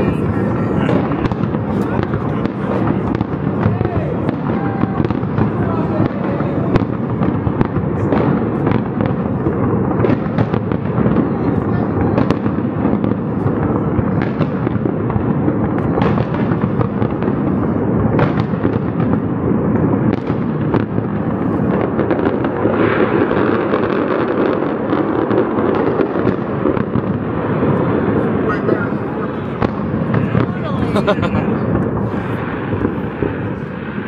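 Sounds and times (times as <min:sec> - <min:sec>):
fireworks bursting and crackling: 0:00.0 - 0:34.0
sharp loud firework reports: 0:00.0 - 0:34.0.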